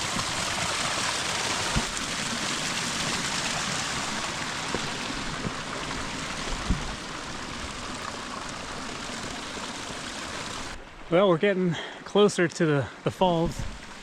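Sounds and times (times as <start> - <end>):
stream and waterfalls rushing: 0.0 - 14.0.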